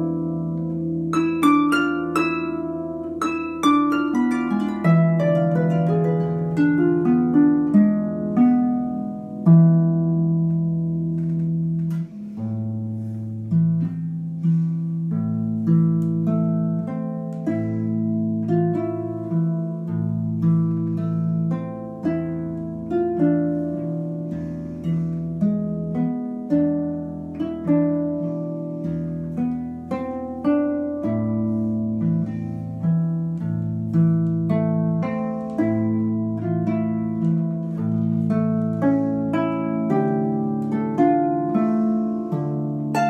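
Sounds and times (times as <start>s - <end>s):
solo harp playing: 0.0s - 43.0s.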